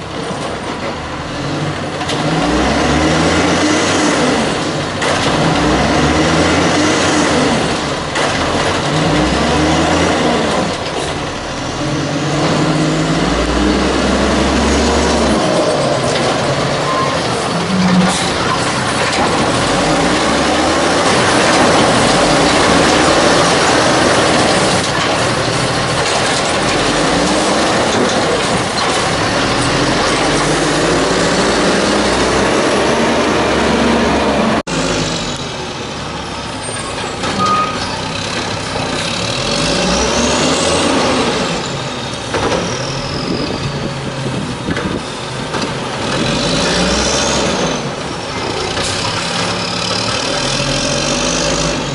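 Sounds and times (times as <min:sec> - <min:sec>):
truck engine running loud: 0:00.0 - 0:51.9.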